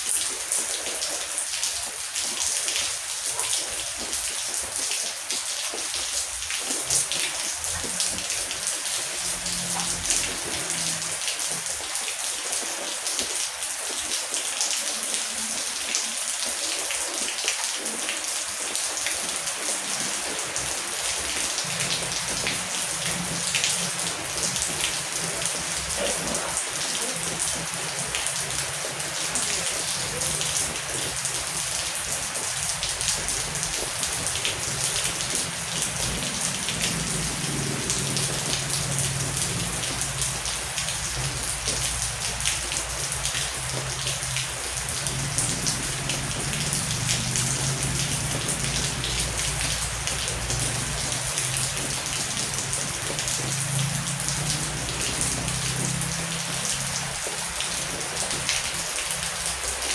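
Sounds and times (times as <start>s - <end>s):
heavy rain hissing: 0.0s - 59.9s
raindrops pattering on surface: 0.0s - 59.9s.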